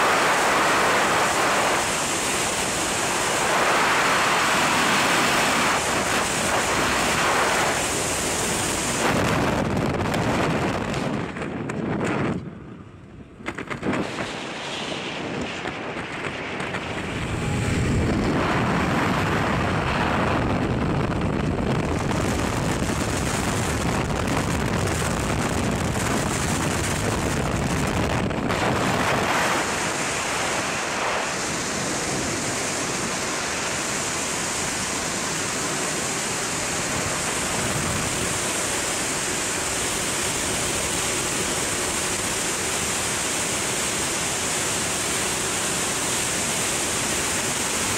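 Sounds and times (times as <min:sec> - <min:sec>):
wind rushing over microphone: 0:00.0 - 0:47.9.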